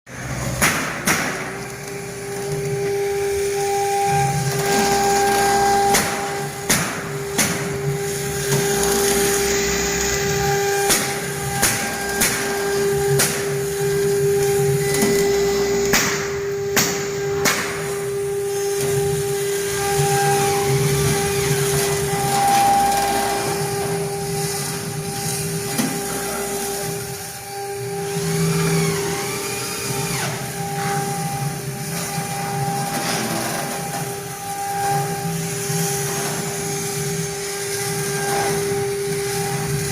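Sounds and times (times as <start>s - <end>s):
router spindle whining: 1.4s - 39.9s.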